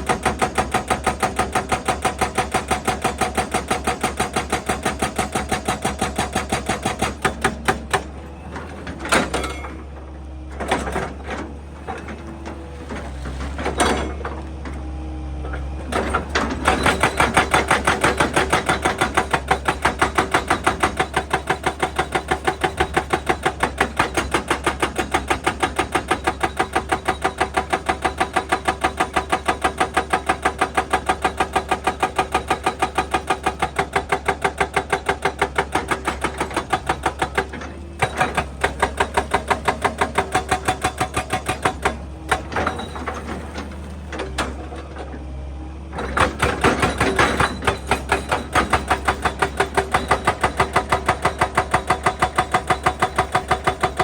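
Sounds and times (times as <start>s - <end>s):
hydraulic breaker hammering rock: 0.0s - 10.0s, 15.5s - 45.2s, 45.9s - 54.0s.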